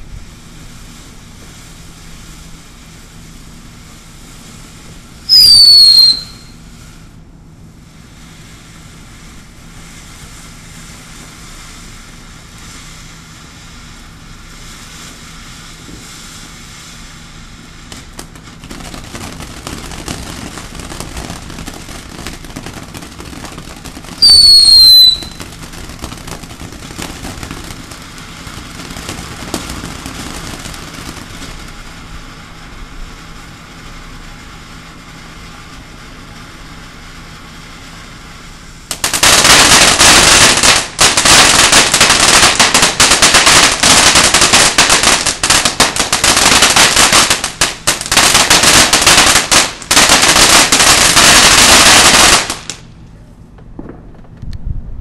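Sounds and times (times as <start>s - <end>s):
fountain fireworks hissing and crackling: 0.0s - 54.3s
firework whistle: 0.2s - 7.2s, 7.9s - 52.9s.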